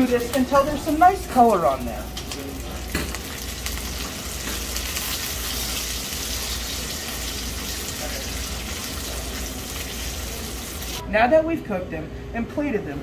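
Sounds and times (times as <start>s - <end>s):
dumplings sizzling in butter: 0.0s - 11.0s.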